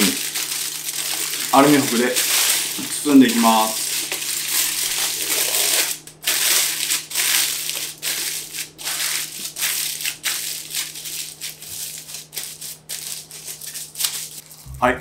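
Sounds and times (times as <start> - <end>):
aluminium foil crinkling: 0.0 - 14.7.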